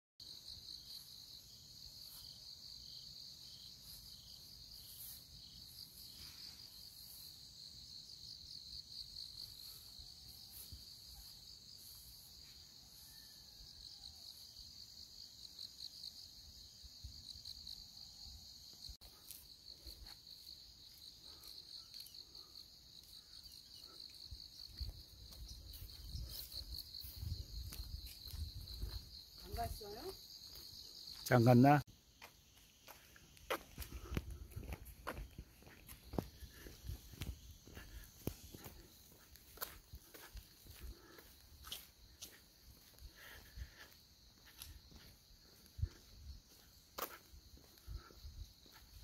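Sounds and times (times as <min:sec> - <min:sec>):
crickets chirping: 0:00.2 - 0:49.0.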